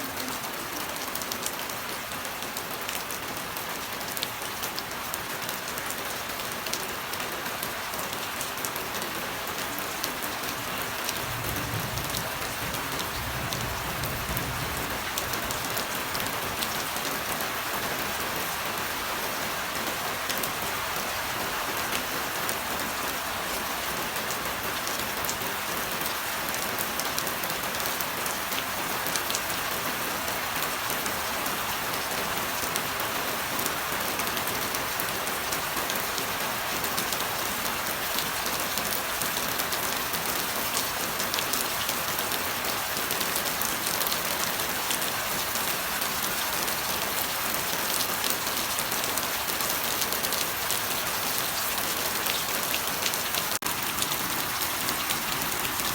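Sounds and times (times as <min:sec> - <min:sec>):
steady rain hiss: 0:05.9 - 0:27.0, 0:28.4 - 0:55.9.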